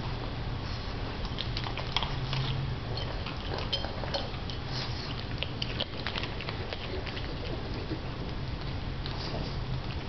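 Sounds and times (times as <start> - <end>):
low steady hum: 0.0 - 10.0
dog crunching dry kibble: 1.2 - 10.0.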